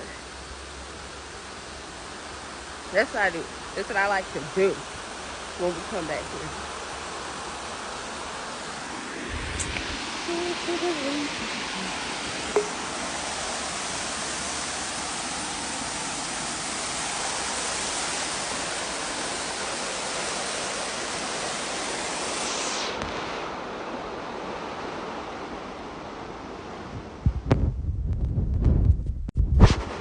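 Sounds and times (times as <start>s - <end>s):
stream water rushing: 0.0s - 26.9s.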